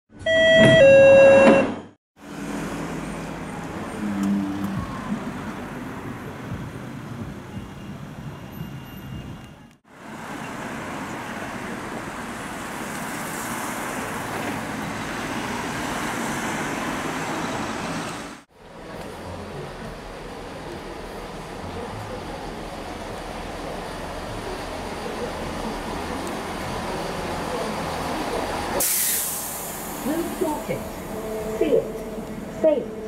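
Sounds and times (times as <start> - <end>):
cars passing on busy street: 2.2 - 33.0.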